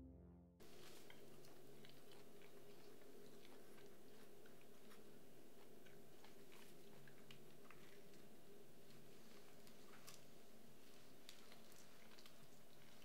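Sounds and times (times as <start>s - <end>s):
low steady hum: 0.0s - 13.0s
person chewing: 0.6s - 13.0s.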